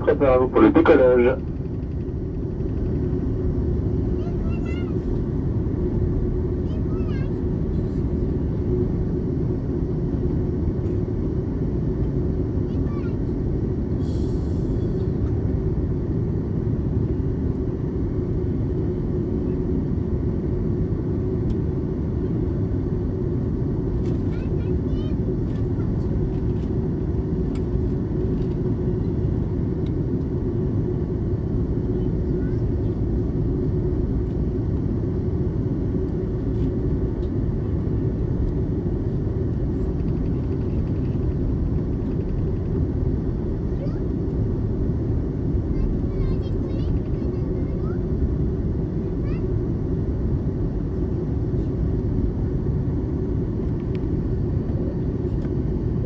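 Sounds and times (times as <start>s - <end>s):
airliner engines and airflow rumble: 0.0s - 56.0s.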